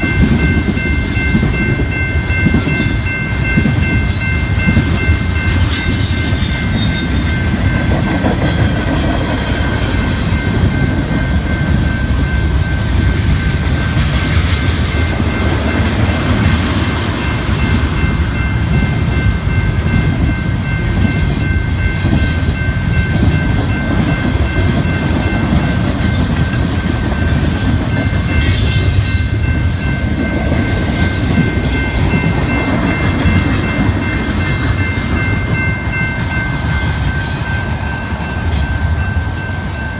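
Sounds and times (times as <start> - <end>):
high ringing tone: 0.0 - 14.0, 14.6 - 39.9
train wheels rumbling on rails: 0.0 - 39.9.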